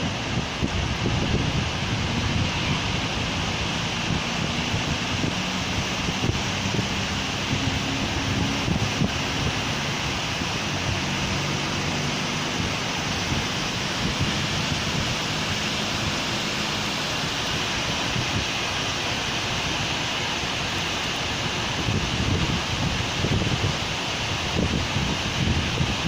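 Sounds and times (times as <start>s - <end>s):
vehicle engine hum: 0.0s - 23.5s
rain falling on street: 0.0s - 26.0s.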